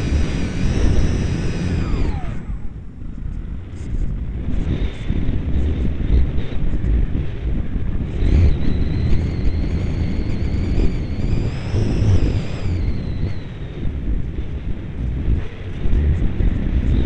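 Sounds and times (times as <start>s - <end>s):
model aircraft motor whining: 0.0s - 17.0s
wind buffeting microphone: 0.0s - 17.0s.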